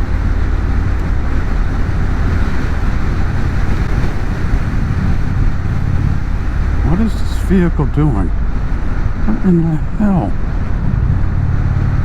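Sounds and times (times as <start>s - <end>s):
motorcycle engine rumble: 0.0s - 12.0s
wind rushing over microphone: 0.0s - 12.0s.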